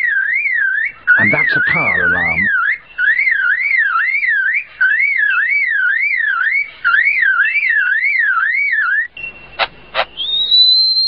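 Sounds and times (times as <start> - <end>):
lyrebird mimicking car alarm: 0.0 - 9.1.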